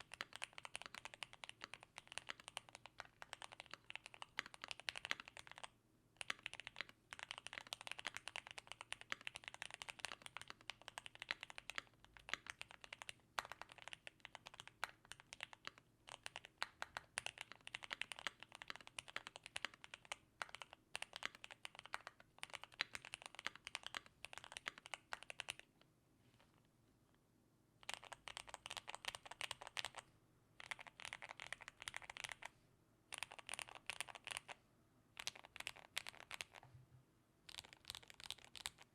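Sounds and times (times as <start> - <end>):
mechanical keyboard typing: 0.0 - 25.7, 27.8 - 30.0, 30.6 - 32.5, 33.1 - 34.6, 35.2 - 36.6, 37.5 - 38.9.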